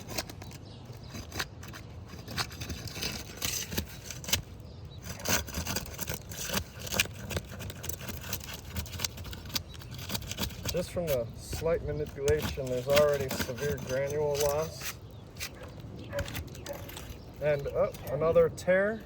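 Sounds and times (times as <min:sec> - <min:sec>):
granules rubbing off: 0:00.0 - 0:19.0
shingle scraping and crackling: 0:00.0 - 0:19.0.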